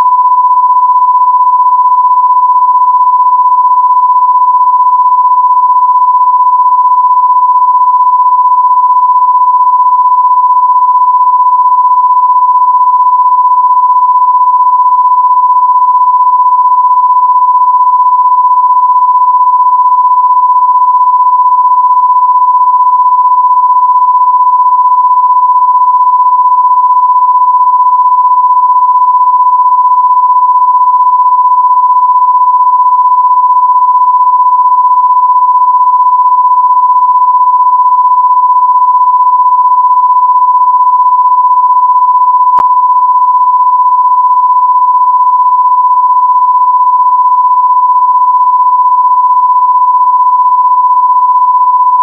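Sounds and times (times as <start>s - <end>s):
electronic test tone: 0.0s - 52.0s.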